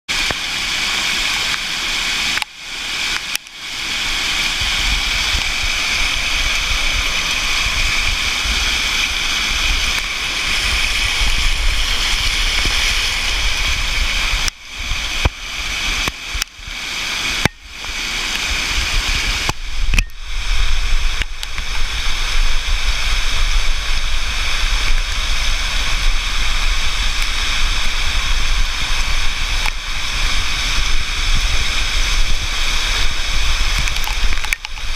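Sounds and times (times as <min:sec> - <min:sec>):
floodwater rushing: 0:00.1 - 0:34.9
low rumble: 0:04.6 - 0:16.0, 0:17.6 - 0:34.9.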